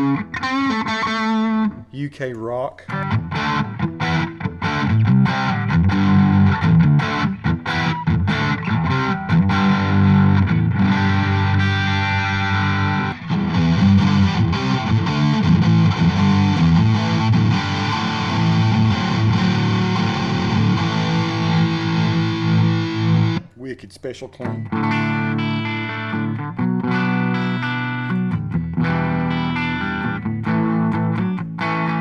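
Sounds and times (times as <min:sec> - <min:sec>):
overdriven electric guitar chords: 0:00.0 - 0:01.9, 0:02.9 - 0:23.5, 0:24.4 - 0:32.0.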